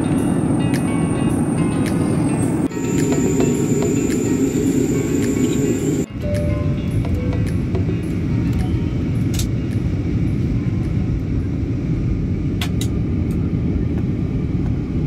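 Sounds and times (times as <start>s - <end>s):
jet engines and airflow rumble: 0.0s - 15.0s.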